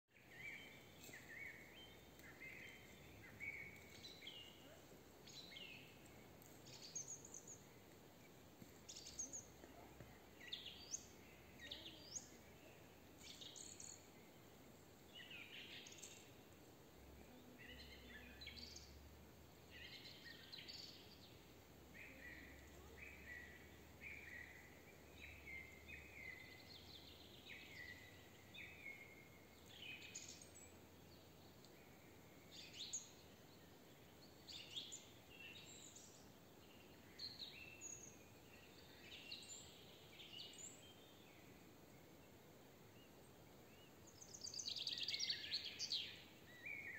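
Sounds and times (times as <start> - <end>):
songbirds chirping and trilling: 0.1 - 46.9.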